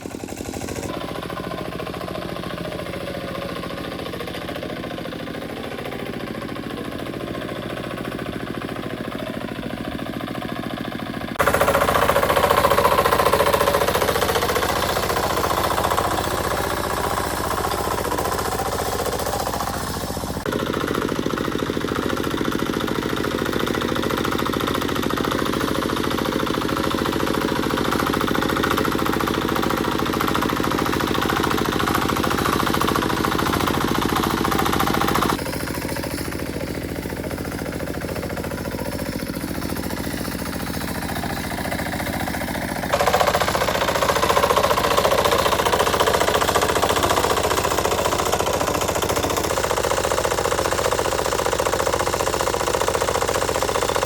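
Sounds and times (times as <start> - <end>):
engine hammering beat: 0.0 - 54.0.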